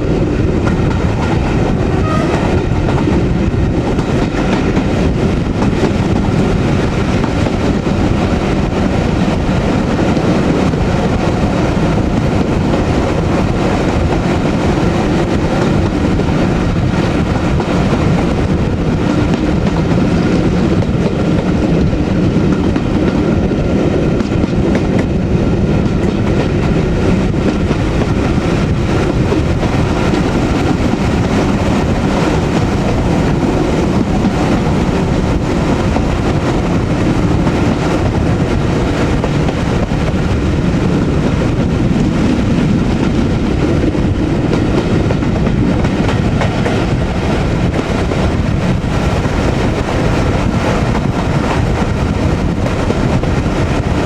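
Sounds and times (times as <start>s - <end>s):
diesel locomotive engine: 0.0s - 54.0s
train wheels on rails: 0.0s - 54.0s.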